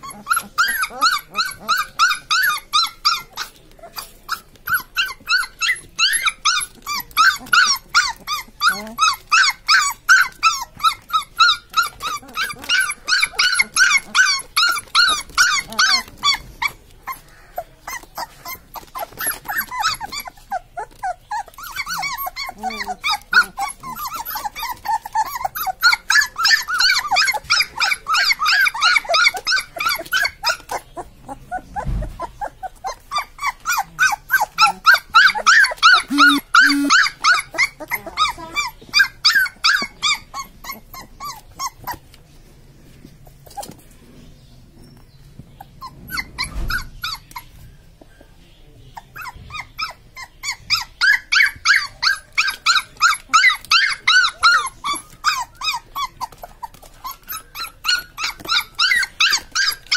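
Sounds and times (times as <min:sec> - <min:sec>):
puppies whining and yelping: 0:00.0 - 0:59.9.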